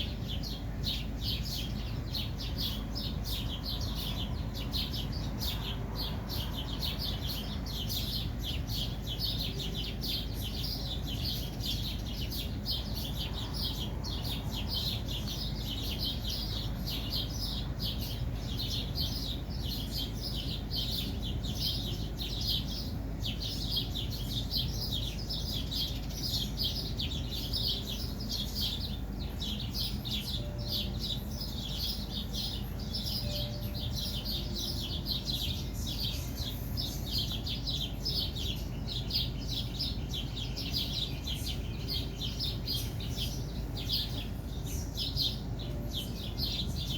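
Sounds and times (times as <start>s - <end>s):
birds chirping: 0.0s - 46.9s
steady low hum: 0.0s - 46.9s.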